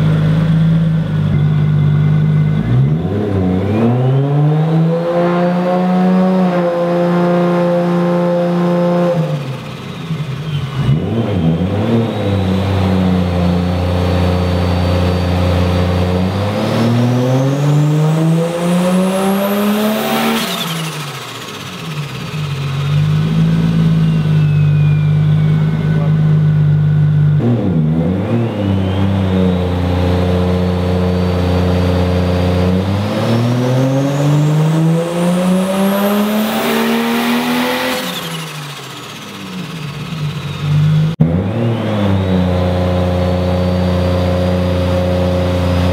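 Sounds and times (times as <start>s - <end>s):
high turbo whine: 0.0s - 45.9s
turbocharged car engine revving: 0.0s - 45.9s.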